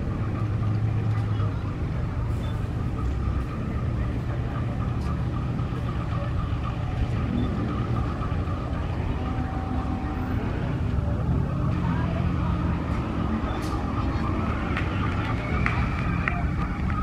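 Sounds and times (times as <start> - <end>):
diesel locomotive engine humming: 0.0 - 17.0.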